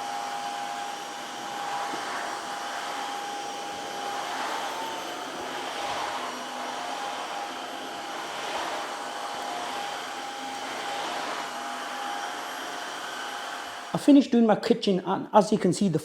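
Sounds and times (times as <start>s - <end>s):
floor cleaner motor whine: 0.0s - 14.0s.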